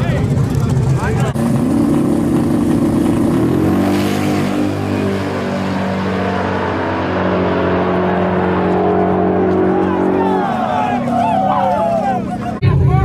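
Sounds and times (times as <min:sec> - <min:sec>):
truck engine running loudly: 0:00.0 - 0:13.0.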